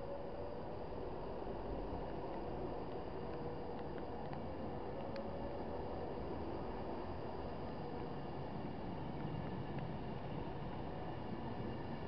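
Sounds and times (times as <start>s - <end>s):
electric train passing: 0.0s - 12.0s
rumble of train wheels: 0.0s - 12.0s.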